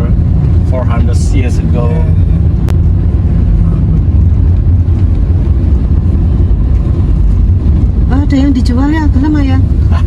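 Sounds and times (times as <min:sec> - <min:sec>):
car engine: 0:00.0 - 0:10.0
road noise: 0:00.0 - 0:10.0.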